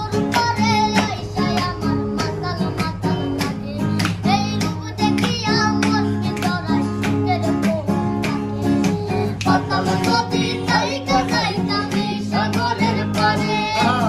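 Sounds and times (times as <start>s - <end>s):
person singing with vibrato: 0.0s - 14.0s
strummed guitar: 0.0s - 14.0s.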